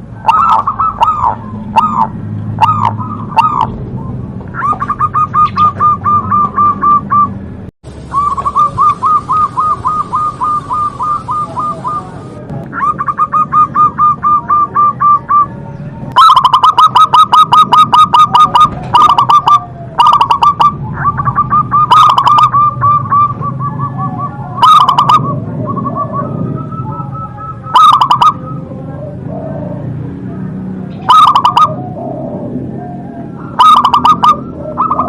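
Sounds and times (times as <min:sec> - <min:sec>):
dove cooing in staccato notes: 0:00.0 - 0:07.4, 0:08.1 - 0:35.0.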